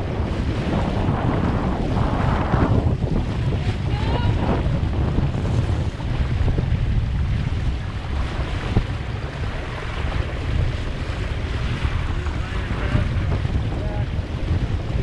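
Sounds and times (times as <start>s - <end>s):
water rushing and splashing: 0.0s - 15.0s
wind buffeting microphone: 0.0s - 15.0s.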